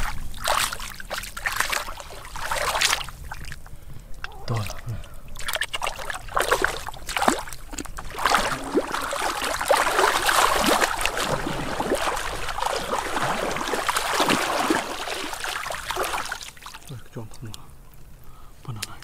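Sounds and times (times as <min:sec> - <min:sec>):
muddy water sloshing and splashing: 0:00.0 - 0:03.7, 0:04.3 - 0:17.0.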